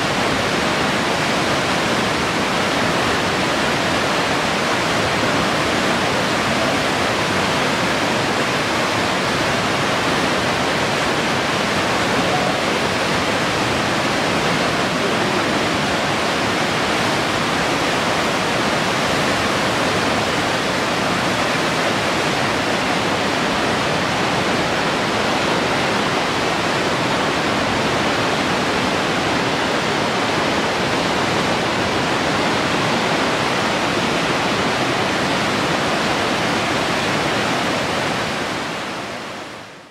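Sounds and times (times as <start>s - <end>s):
white water rushing through gorge: 0.0s - 39.9s.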